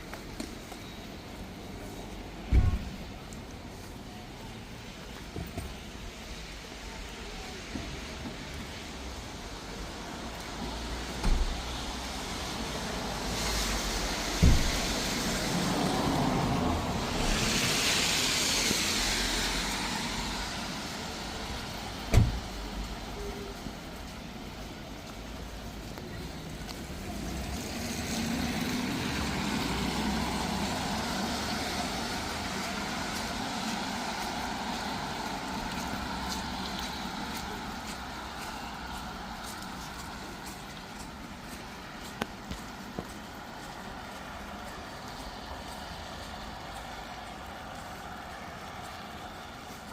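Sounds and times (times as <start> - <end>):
tyre hiss on wet road: 0.0 - 49.9.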